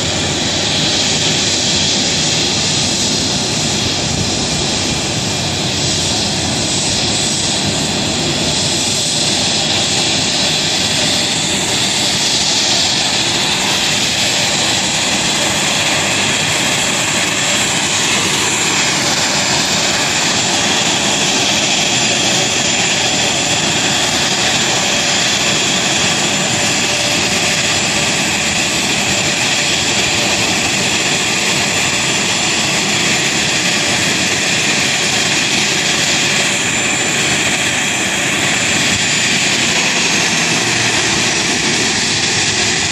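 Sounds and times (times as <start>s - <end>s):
airliner engines rushing: 0.0s - 42.9s
high engine whine: 0.0s - 42.9s.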